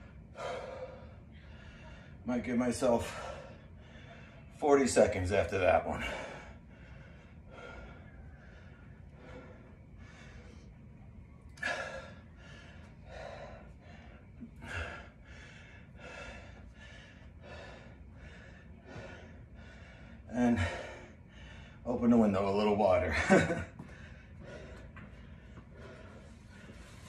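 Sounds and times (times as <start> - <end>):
man breathing hard: 0.0 - 22.0, 22.7 - 27.0.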